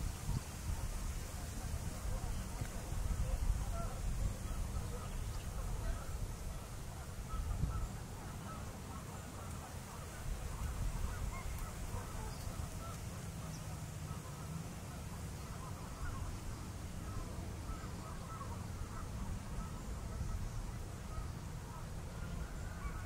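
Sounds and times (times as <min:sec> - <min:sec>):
distant waterfowl calls: 0:01.9 - 0:23.0.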